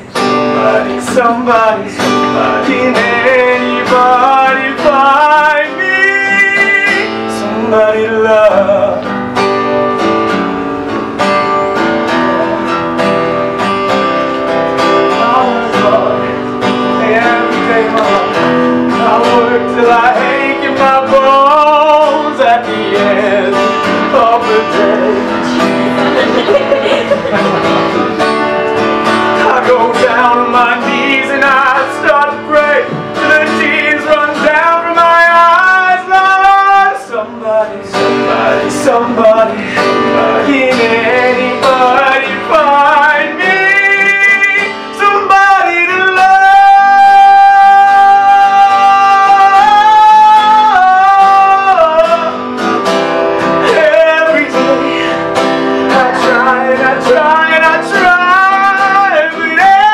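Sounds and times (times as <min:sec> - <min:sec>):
stage song instrumental music: 0:00.0 - 0:59.9.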